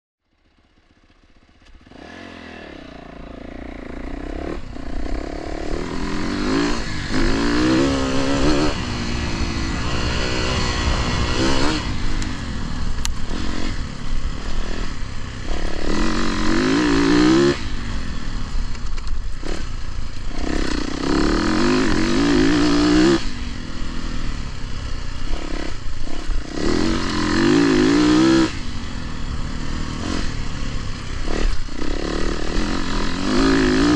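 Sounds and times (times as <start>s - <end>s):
dirt bike engine revving: 1.4s - 33.9s.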